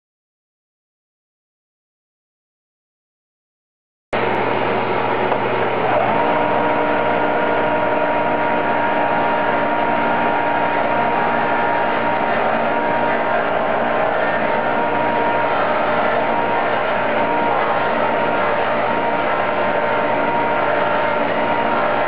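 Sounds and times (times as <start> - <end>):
disc sander humming: 4.2 - 22.0
high whine: 4.2 - 22.0.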